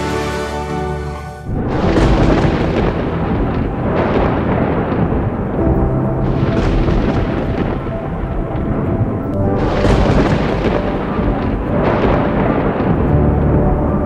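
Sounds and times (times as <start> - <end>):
soft music: 0.0 - 14.0
thunder rumbling: 1.4 - 14.0.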